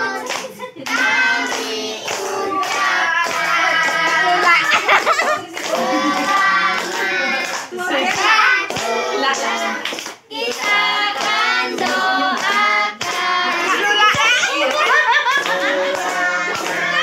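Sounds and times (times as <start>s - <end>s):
group singing with children: 0.0s - 17.0s
hands clapping along: 0.2s - 17.0s.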